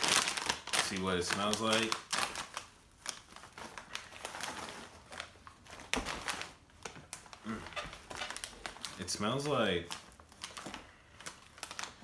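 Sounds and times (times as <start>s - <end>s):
plastic chip bag crinkling: 0.0s - 12.0s.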